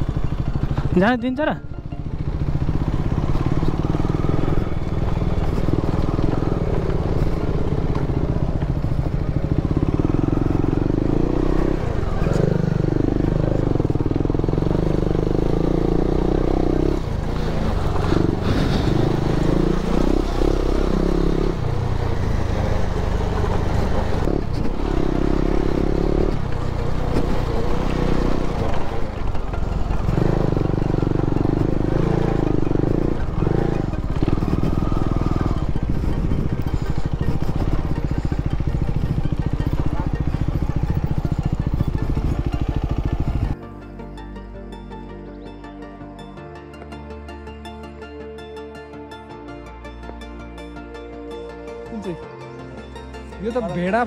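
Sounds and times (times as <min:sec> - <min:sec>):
motorcycle engine revving: 0:00.0 - 0:43.8.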